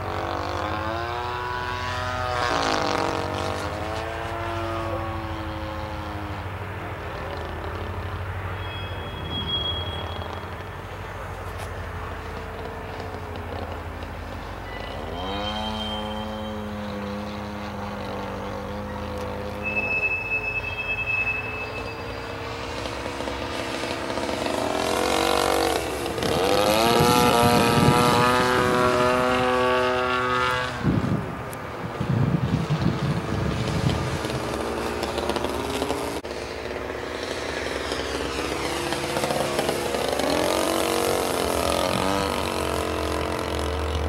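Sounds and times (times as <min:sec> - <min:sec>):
model airplane engine: 0:00.0 - 0:20.6, 0:21.3 - 0:44.0.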